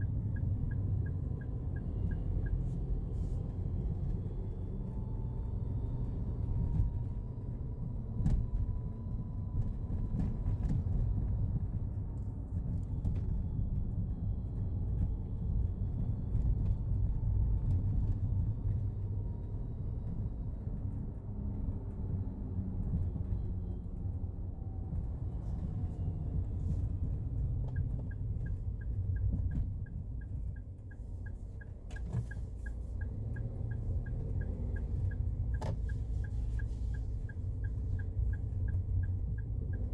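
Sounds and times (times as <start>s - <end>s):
van engine low rumble: 0.0s - 39.9s.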